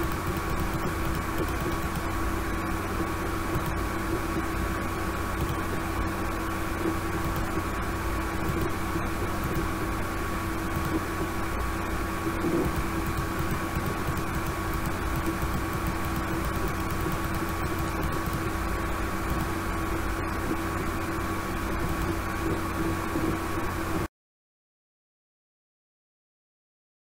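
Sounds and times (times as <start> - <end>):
constant low hum: 0.0 - 24.1.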